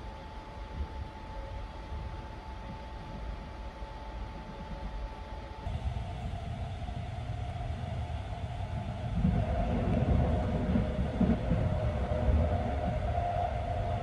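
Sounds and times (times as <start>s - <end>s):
moving train rumble: 0.0s - 14.0s.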